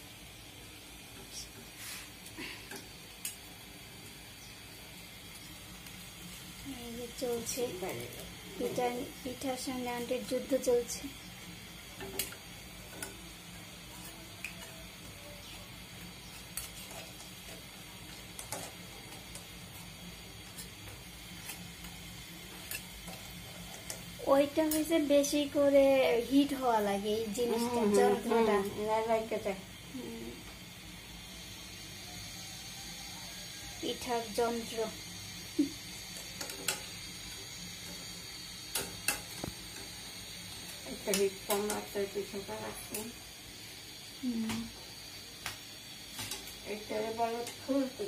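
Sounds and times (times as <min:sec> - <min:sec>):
fritters sizzling in hot oil: 0:00.0 - 0:48.0
sharp ticks of frying oil: 0:00.0 - 0:48.0.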